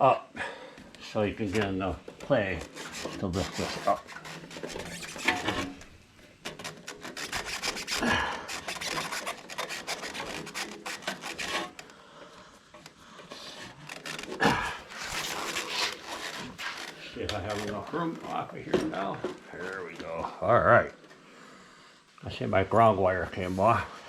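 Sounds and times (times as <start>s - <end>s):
rubbing and scraping of cables: 1.0s - 21.2s.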